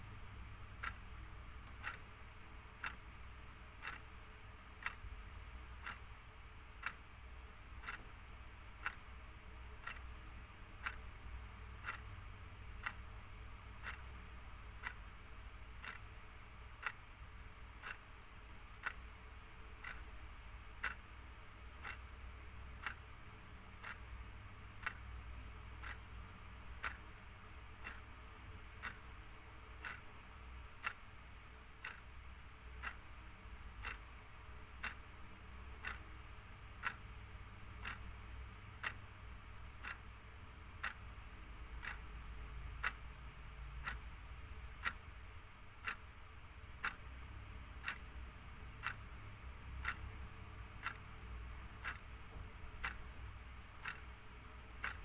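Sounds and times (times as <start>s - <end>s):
faint low hum: 0.0s - 55.0s
clock ticking: 0.1s - 55.0s.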